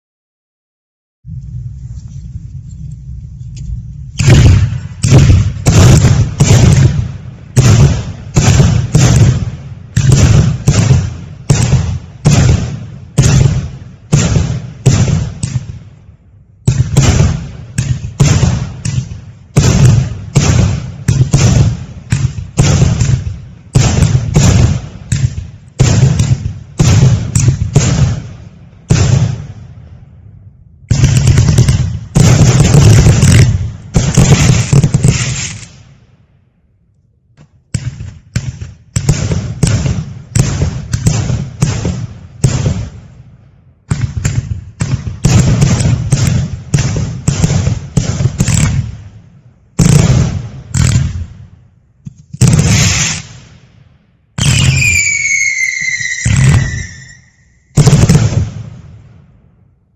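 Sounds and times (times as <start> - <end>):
firework shots banging: 4.0 - 16.0, 16.6 - 30.0, 30.8 - 36.1, 37.4 - 53.7, 54.4 - 59.3.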